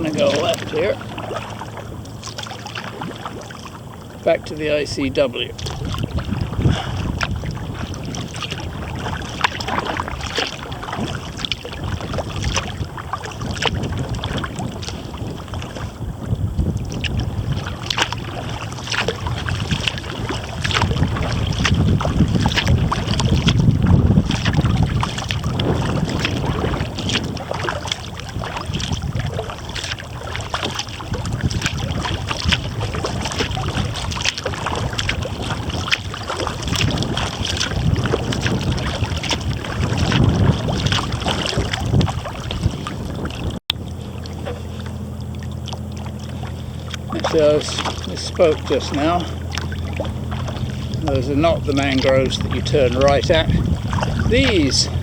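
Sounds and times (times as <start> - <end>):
kayak paddle strokes: 0.0 - 55.0
water splashing and dripping: 0.0 - 55.0
wind buffeting microphone: 0.0 - 55.0.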